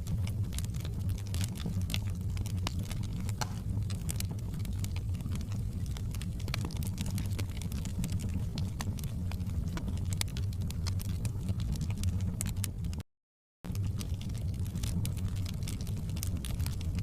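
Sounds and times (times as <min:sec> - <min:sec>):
low rumble of burning: 0:00.0 - 0:13.0, 0:13.7 - 0:17.0
wood fire crackling and popping: 0:00.0 - 0:13.0, 0:13.7 - 0:17.0.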